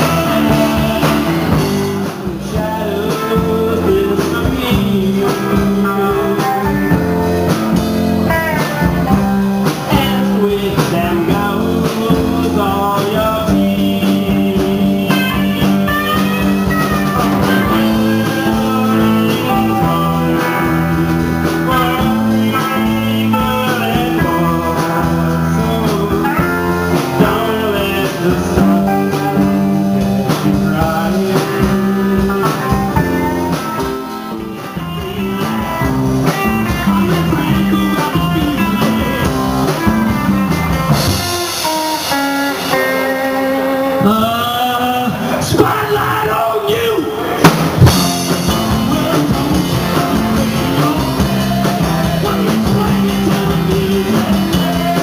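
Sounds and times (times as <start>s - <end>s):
bending lead guitar lines: 0.0s - 55.0s
live rock band playing: 0.0s - 55.0s.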